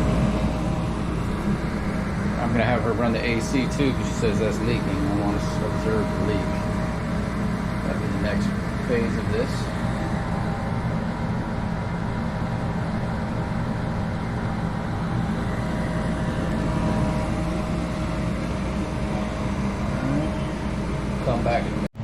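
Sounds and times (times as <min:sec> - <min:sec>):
furnace blower humming: 0:00.0 - 0:22.0.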